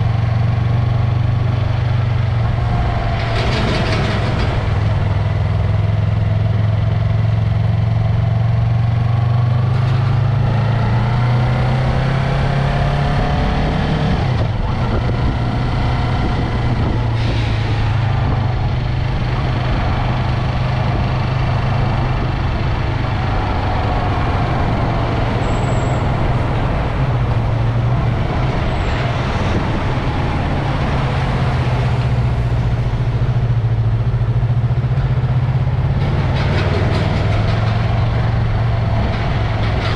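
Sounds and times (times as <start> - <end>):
passing traffic engines: 0.0 - 39.9
wind and road noise: 0.0 - 39.9.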